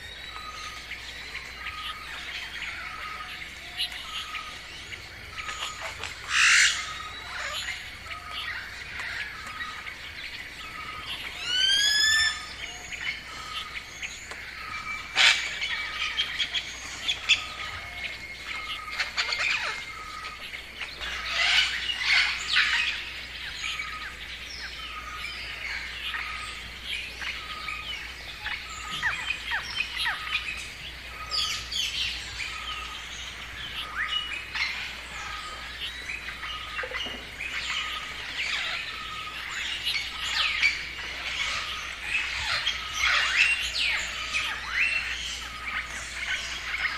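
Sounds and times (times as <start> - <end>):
birds chirping and trilling: 0.0 - 46.9.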